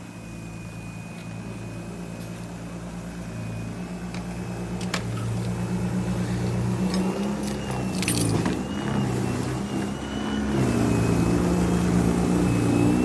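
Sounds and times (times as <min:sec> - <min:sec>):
engine hum: 0:00.0 - 0:13.0.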